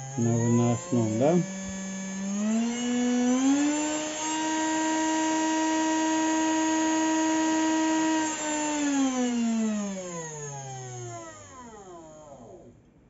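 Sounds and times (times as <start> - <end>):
small electric motor whine: 0.0 - 12.8.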